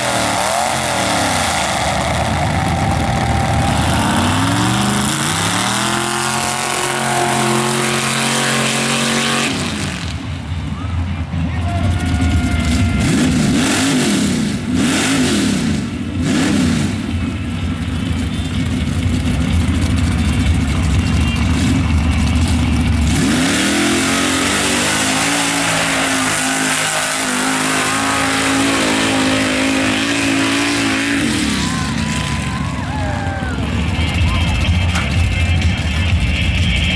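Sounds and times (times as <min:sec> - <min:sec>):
truck engine revving: 0:00.0 - 0:36.9.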